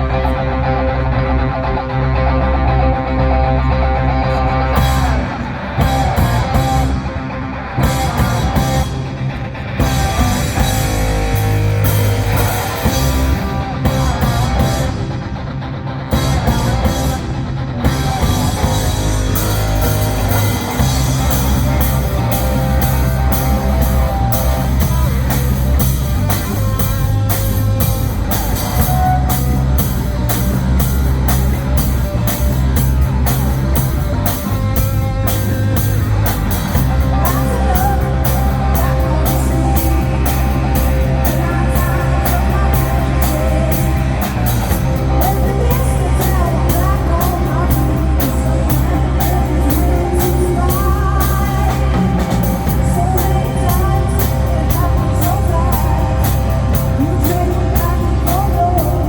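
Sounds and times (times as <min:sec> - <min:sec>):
heavy bass low end: 0:00.0 - 0:15.3, 0:16.1 - 0:59.0
electric guitar: 0:00.0 - 0:59.0
drum kit beat: 0:04.8 - 0:07.1, 0:07.8 - 0:09.2, 0:09.8 - 0:15.0, 0:17.8 - 0:59.0.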